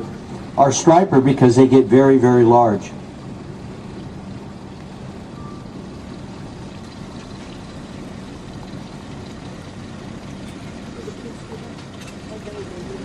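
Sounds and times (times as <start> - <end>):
boat engine humming: 0.0 - 13.0
water noise: 0.0 - 13.0.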